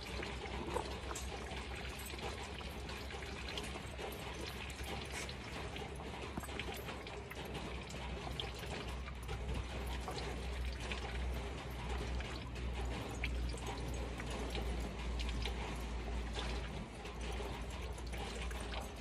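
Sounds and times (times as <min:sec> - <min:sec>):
dogs crunching and chewing: 0:00.0 - 0:19.0.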